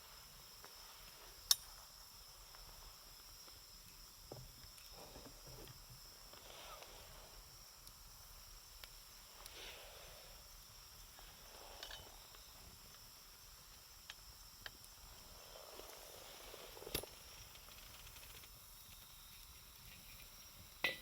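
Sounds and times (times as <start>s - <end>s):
wood campfire crackling: 0.0s - 21.0s.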